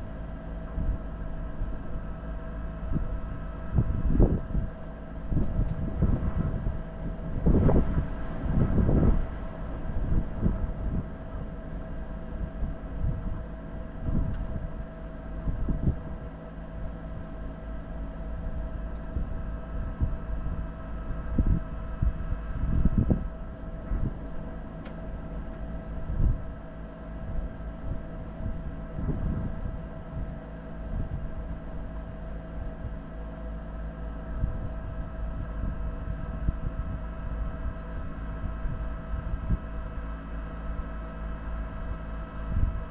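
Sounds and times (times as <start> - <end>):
vehicle engine drone: 0.0 - 42.9.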